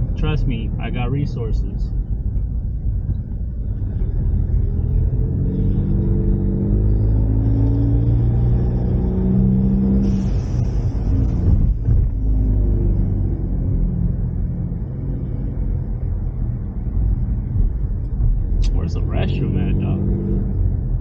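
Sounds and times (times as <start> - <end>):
car engine accelerating: 1.8 - 21.0.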